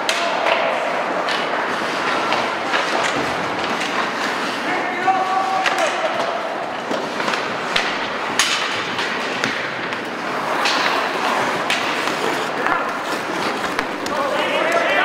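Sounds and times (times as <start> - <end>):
hockey sticks and puck clacking: 0.0 - 15.0
skate blades scraping ice: 0.4 - 15.0.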